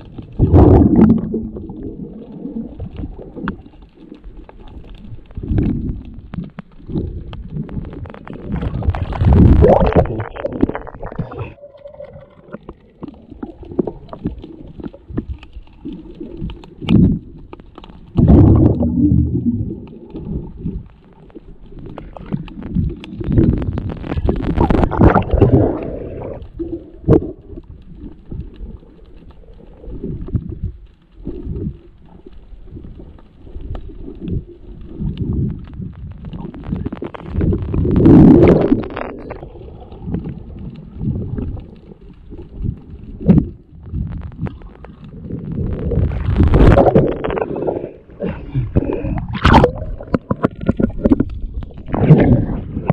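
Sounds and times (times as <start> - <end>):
muffled underwater rumble: 0.0 - 52.9
water rushing and sloshing: 0.0 - 52.9.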